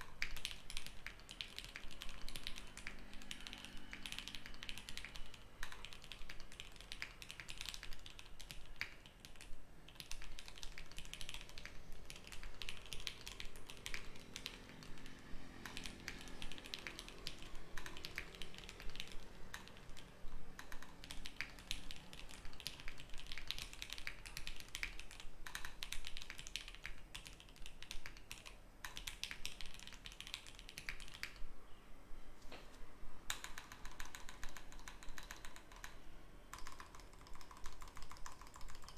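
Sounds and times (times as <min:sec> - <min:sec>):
mechanical keyboard typing: 0:00.0 - 0:31.5, 0:33.3 - 0:38.9.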